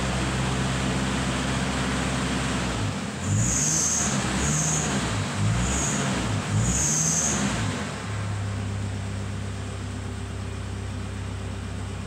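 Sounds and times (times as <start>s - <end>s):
diesel engine revving and idling: 0.0s - 12.0s.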